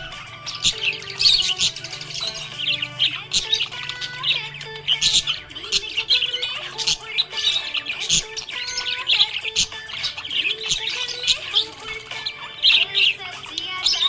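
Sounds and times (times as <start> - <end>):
budgie chirping and chattering: 0.0 - 14.0.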